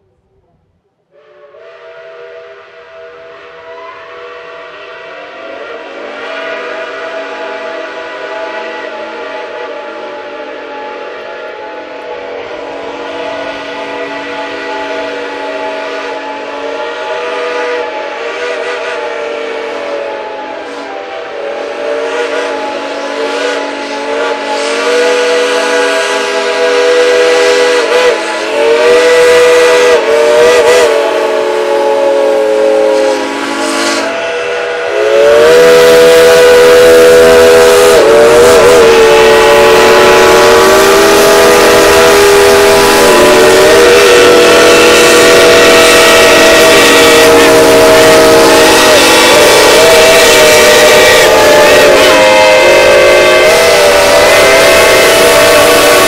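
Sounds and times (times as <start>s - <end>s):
deep locomotive rumble: 0.0s - 56.0s
steam whistles blowing: 1.1s - 56.0s.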